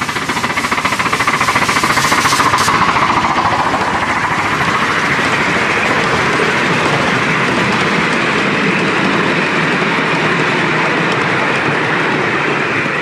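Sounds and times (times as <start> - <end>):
small train wheels clattering on rails: 0.0 - 13.0.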